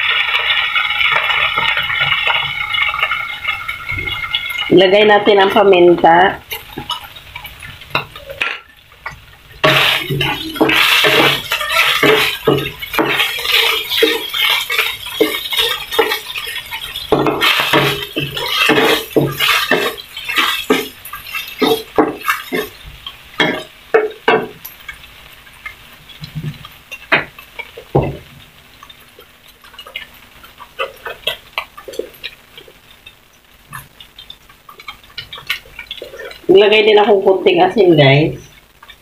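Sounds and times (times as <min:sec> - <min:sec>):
meat frying: 0:00.0 - 0:39.0
spatula scraping frying pan: 0:00.0 - 0:39.0.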